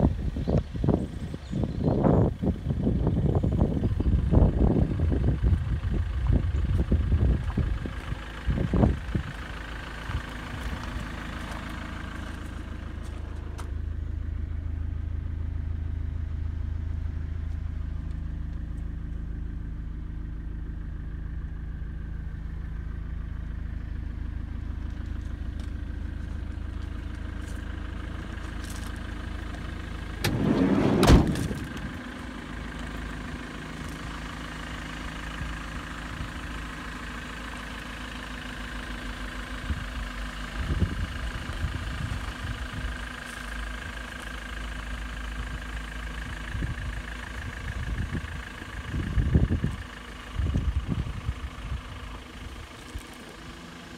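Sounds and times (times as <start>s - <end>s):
minibus engine idling: 0.0s - 53.9s.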